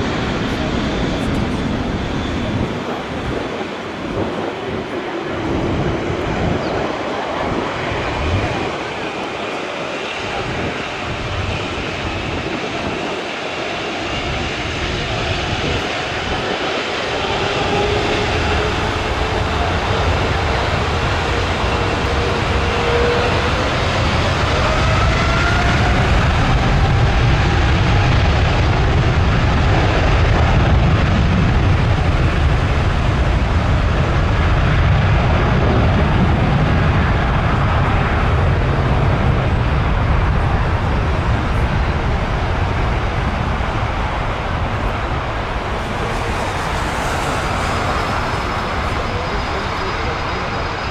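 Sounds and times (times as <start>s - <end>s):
jet engines rumbling overhead: 0.0s - 50.9s
rising jet whine: 0.0s - 50.9s.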